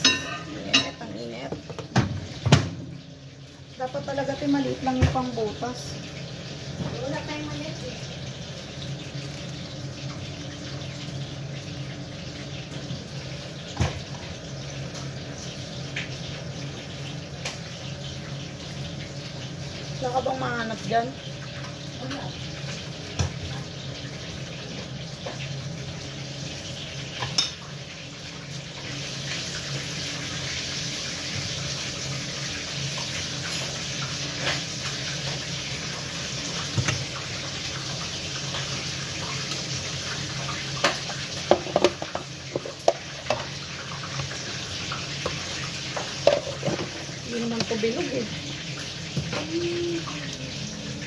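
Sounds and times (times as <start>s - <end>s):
kitchen noise hiss: 0.0s - 51.0s.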